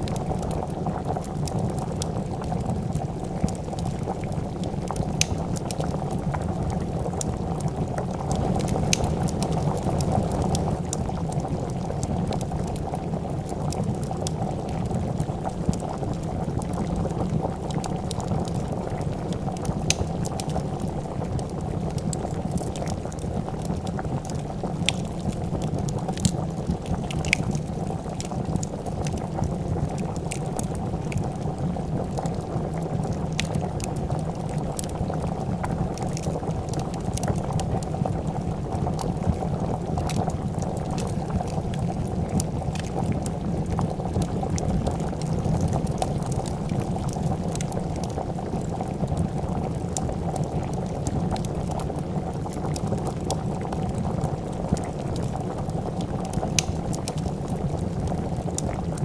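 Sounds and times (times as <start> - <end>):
soup bubbling at a boil: 0.0 - 59.0
wood fire crackles: 0.0 - 59.0.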